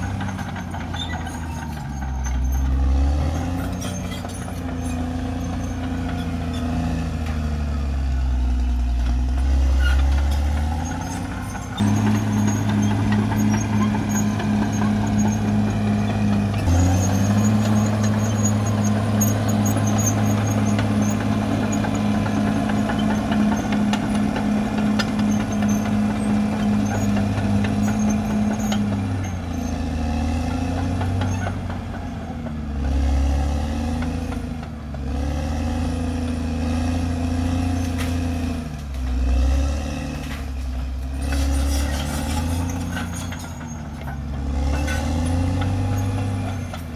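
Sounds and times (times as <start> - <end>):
bulldozer diesel engine revving: 0.0 - 46.9.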